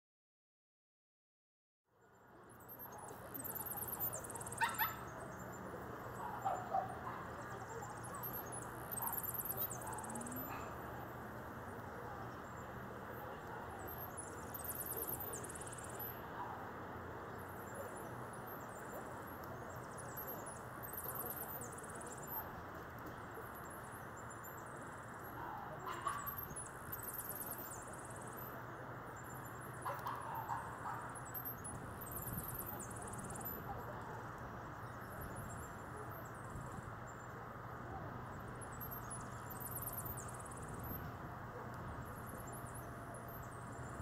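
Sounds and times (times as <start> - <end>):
outdoor background hiss: 2.0 - 44.0.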